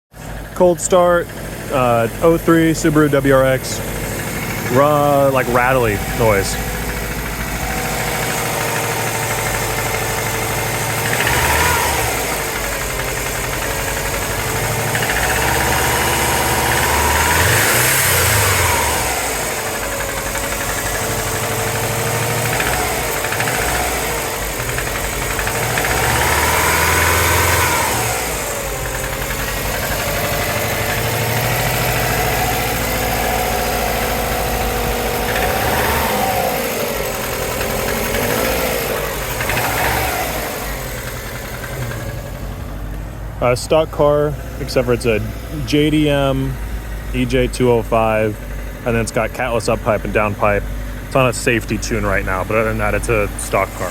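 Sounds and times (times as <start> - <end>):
car engine revving: 0.1 - 53.9
rattly ticking engine noise: 0.1 - 53.9.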